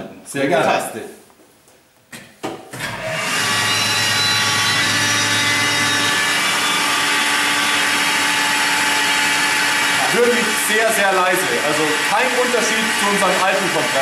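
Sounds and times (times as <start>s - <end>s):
compressor motor humming: 2.8s - 14.0s.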